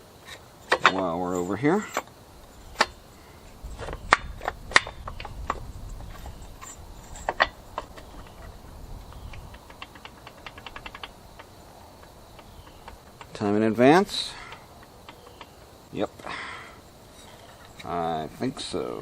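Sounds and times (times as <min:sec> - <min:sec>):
low rumble of handling: 0:00.0 - 0:19.0
hand tools clicking and knocking: 0:00.1 - 0:19.0.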